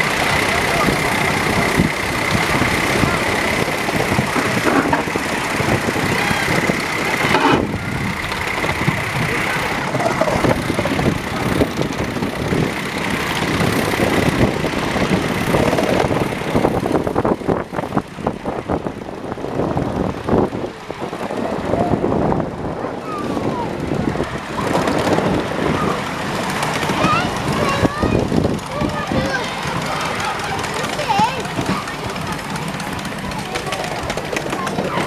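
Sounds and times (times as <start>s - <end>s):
moving train rumble and hiss: 0.0s - 35.0s.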